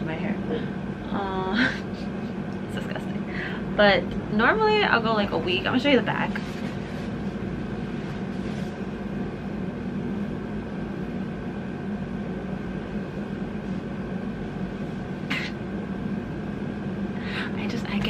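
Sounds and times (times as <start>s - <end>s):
appliance humming: 0.0s - 18.0s.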